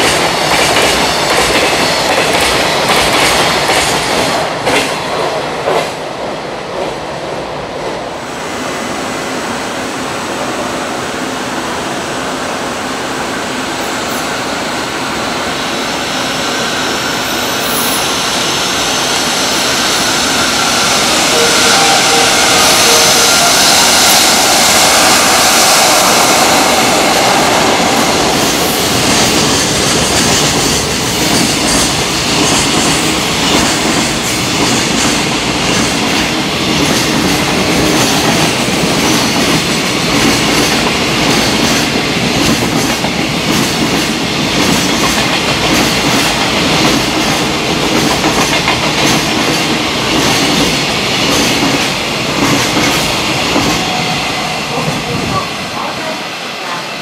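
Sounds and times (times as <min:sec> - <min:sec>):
train passing at speed: 0:00.0 - 0:57.0.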